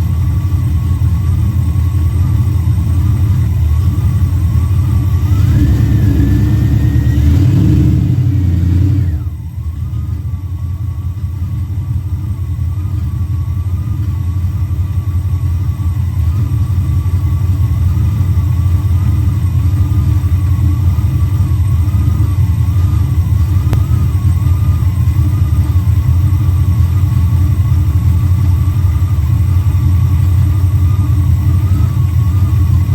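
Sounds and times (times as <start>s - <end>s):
car engine revving and idling: 0.0s - 32.9s.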